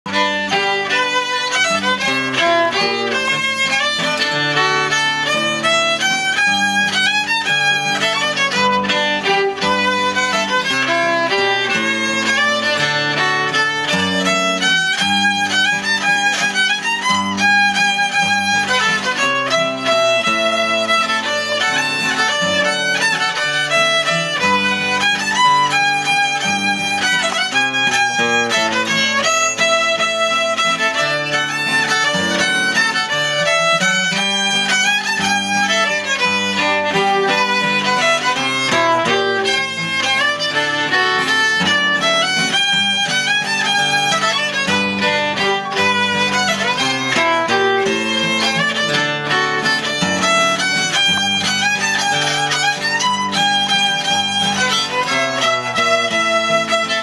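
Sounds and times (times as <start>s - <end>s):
fiddle tune: 0.0s - 57.0s
acoustic guitar chording: 0.1s - 57.0s.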